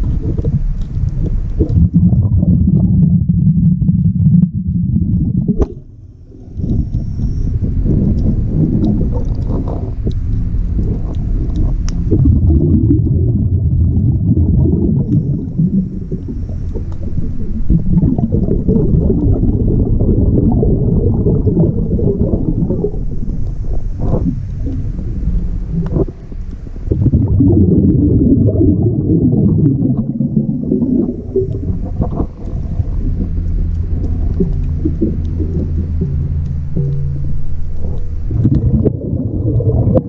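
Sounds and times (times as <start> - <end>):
low steady hum: 0.0 - 40.0
underwater air bubbles: 0.0 - 40.0.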